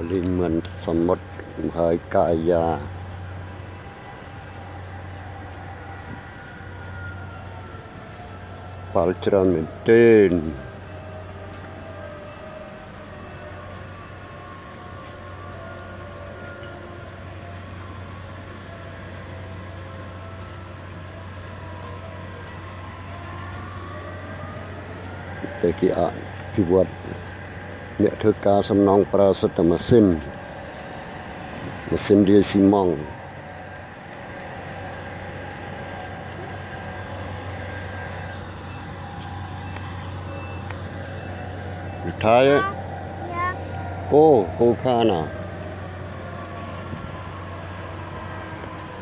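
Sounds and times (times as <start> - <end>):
faint whining tones: 0.0 - 49.0
low engine drone: 0.0 - 49.0.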